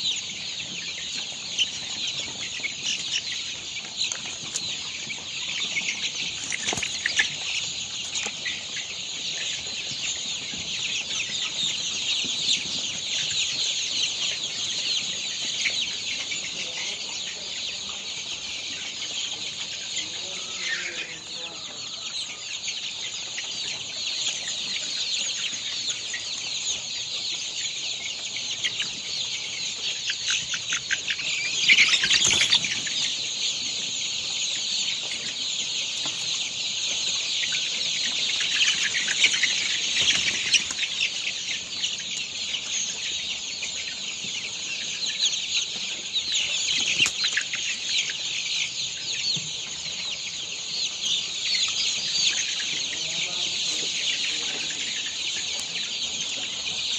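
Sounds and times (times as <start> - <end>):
flock of chickens calling: 0.0 - 56.9.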